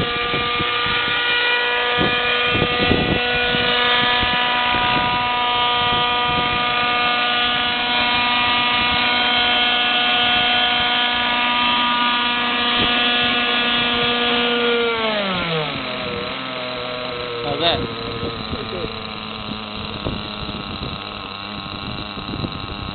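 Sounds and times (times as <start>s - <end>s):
model helicopter engine and rotor: 0.0s - 22.9s
wind buffeting microphone: 0.0s - 22.9s.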